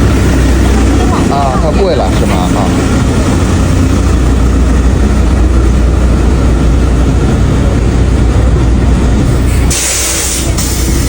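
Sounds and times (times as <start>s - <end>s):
low engine rumble: 0.0s - 11.0s
noisy wash: 0.0s - 11.0s.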